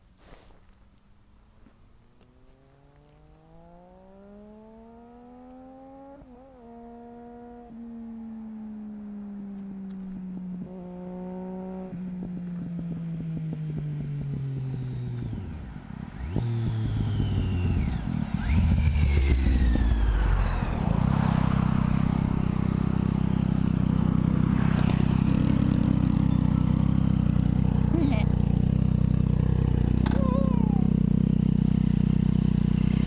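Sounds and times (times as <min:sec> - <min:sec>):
motorcycle engine revving: 0:01.8 - 0:33.0.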